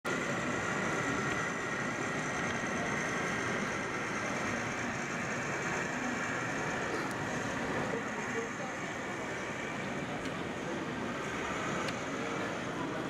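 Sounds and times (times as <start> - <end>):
model train running on track: 0.1 - 13.0.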